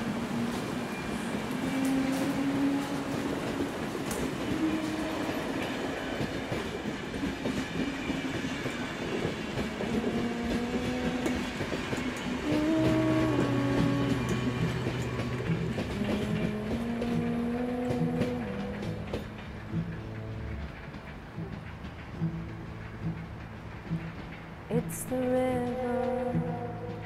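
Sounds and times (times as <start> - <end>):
sustained steady tones: 0.0 - 27.0
train rumbling on rails: 0.0 - 27.0.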